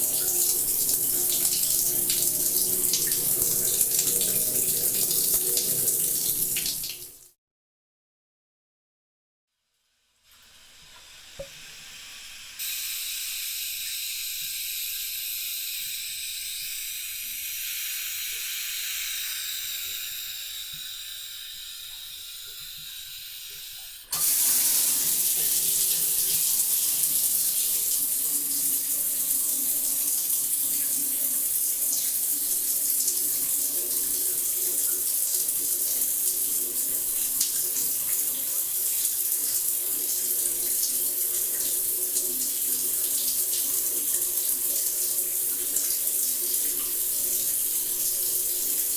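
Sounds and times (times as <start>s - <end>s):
water running from bathtub tap: 0.0s - 7.4s, 10.3s - 48.9s.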